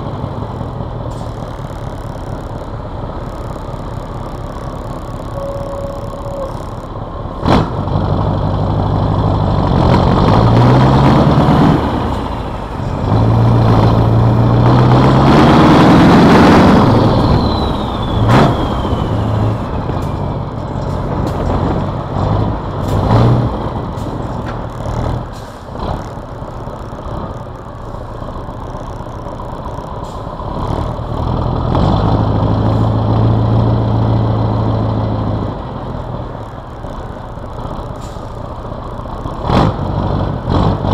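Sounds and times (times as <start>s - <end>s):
truck diesel engine revving: 0.0s - 40.9s.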